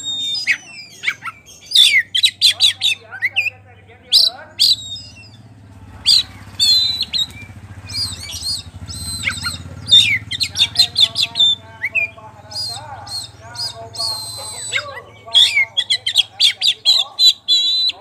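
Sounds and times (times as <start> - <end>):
bird singing loudly: 0.0 - 18.0.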